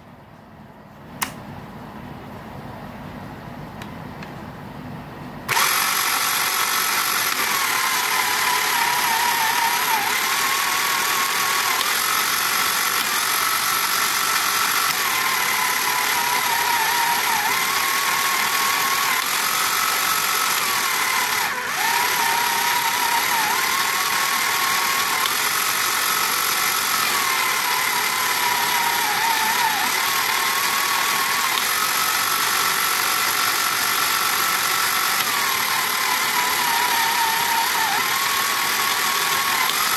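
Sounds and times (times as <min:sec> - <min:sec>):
toy electric motor whining: 0:05.5 - 0:39.9.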